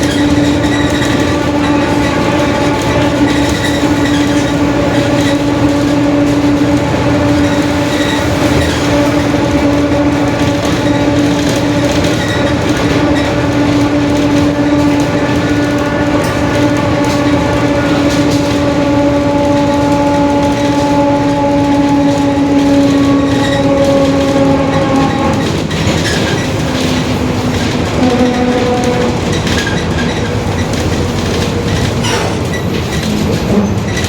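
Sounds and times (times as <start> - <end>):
bus differential whining: 0.0 - 34.0
bus drivetrain noise: 0.0 - 34.0.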